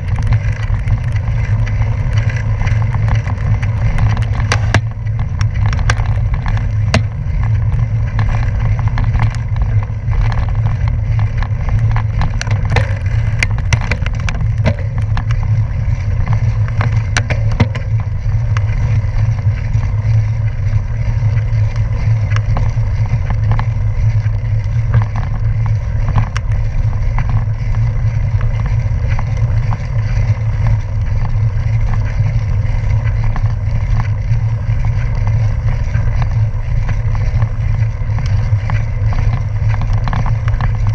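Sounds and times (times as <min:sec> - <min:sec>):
bike tyres rumbling on gravel: 0:00.0 - 0:40.9
stones and bike parts rattling: 0:00.0 - 0:40.9
wind on microphone: 0:00.0 - 0:40.9.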